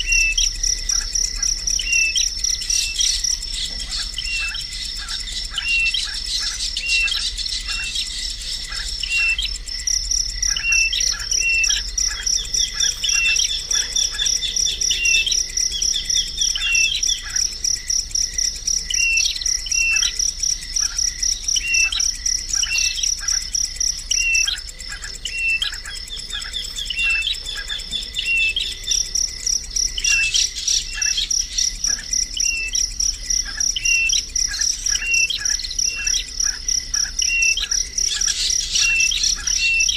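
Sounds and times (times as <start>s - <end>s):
bird chirping: 0.0s - 39.9s
insect trill: 0.0s - 39.9s.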